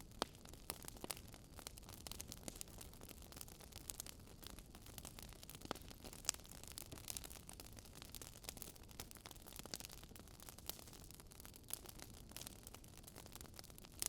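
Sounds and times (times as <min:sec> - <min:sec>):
wood fire crackling in fireplace: 0:00.0 - 0:14.0.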